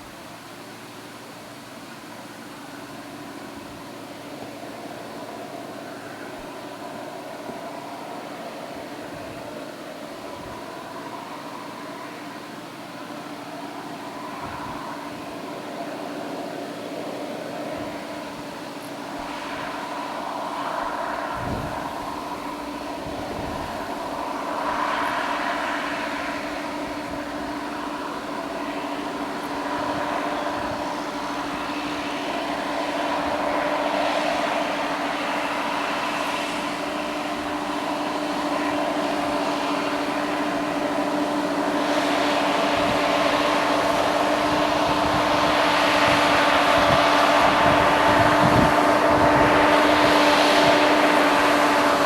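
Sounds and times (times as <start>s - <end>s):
harvest machinery whining: 0.0s - 52.0s.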